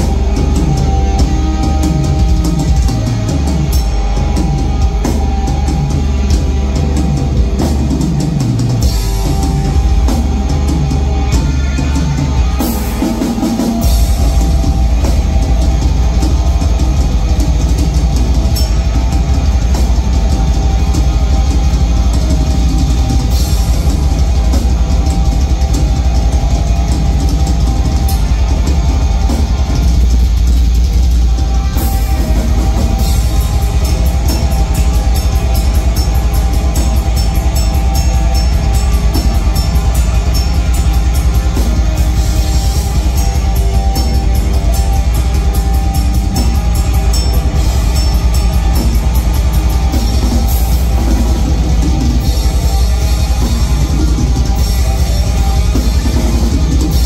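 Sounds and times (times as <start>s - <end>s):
drum kit with fast cymbal hits: 0.0s - 57.0s
metal band playing live: 0.0s - 57.0s.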